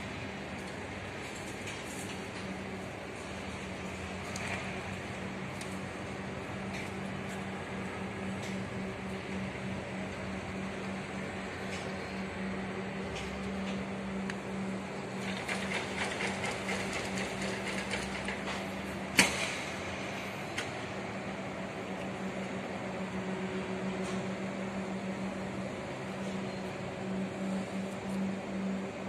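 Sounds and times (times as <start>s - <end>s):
low machinery hum: 0.0s - 29.0s.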